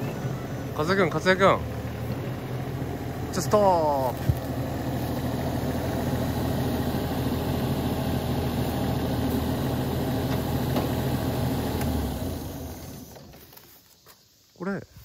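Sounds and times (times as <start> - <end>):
diesel engine idling: 0.0 - 13.7.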